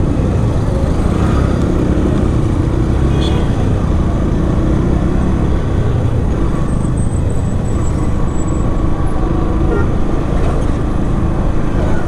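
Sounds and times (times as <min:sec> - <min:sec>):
motorcycle engine and road noise: 0:00.0 - 0:12.0
surrounding traffic: 0:00.0 - 0:12.0.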